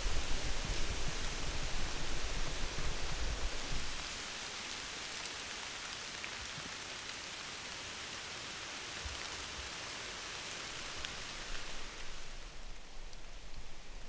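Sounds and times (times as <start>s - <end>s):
steady rain in forest: 0.0s - 14.0s.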